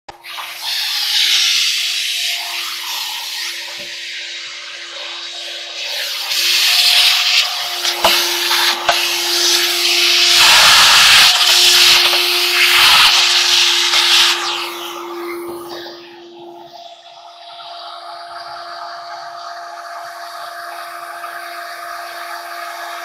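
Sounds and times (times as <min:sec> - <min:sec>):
vacuum cleaner running: 0:00.1 - 0:23.0.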